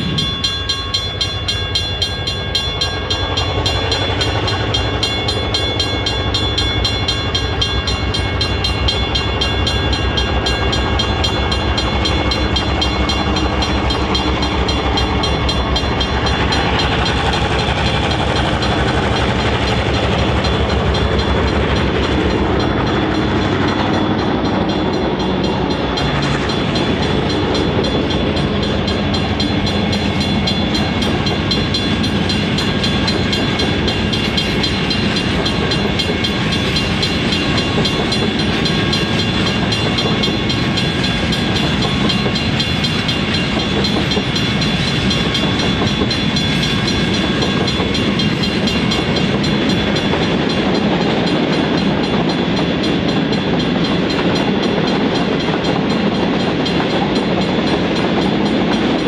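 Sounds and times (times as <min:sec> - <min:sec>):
diesel locomotive engine throb: 0:00.0 - 0:59.0
wagons rumbling on rails: 0:00.0 - 0:59.0.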